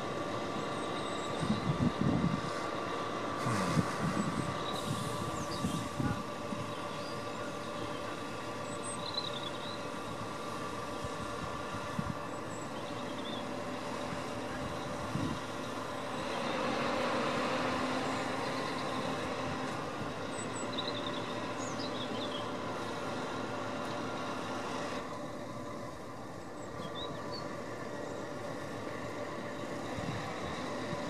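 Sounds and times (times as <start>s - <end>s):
crane diesel engine running: 0.0s - 31.0s.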